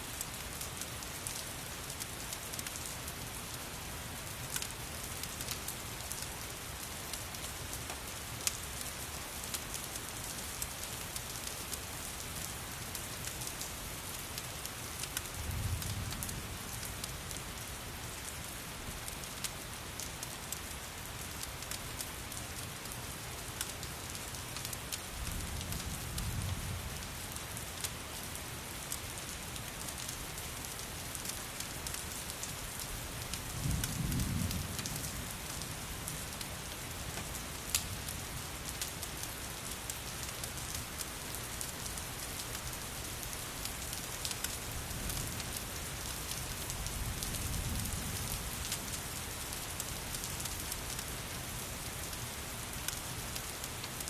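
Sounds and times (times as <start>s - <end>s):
steady rain: 0.0s - 54.0s
wood fire crackling: 0.1s - 26.2s, 26.8s - 54.0s.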